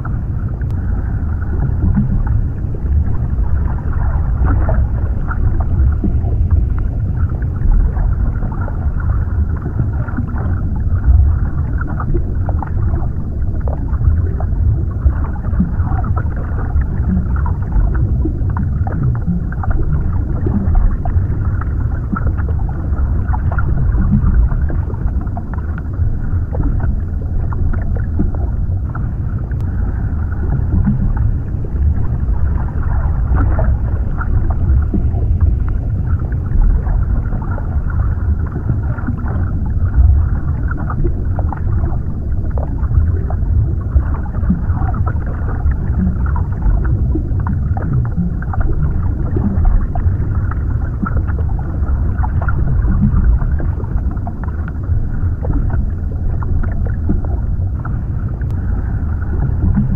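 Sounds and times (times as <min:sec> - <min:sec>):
muffled underwater water rumble: 0:00.0 - 0:59.9.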